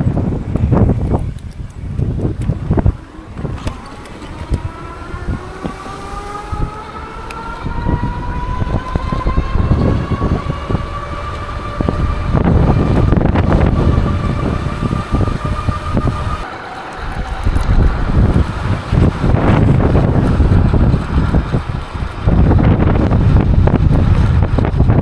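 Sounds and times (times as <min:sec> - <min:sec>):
electric bike motor whining: 0:00.0 - 0:25.0
wind buffeting microphone: 0:00.0 - 0:25.0.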